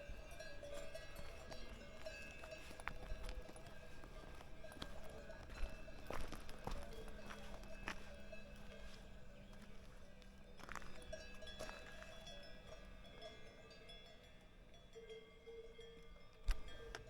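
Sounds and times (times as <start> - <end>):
cowbells clanking: 0.0 - 17.0.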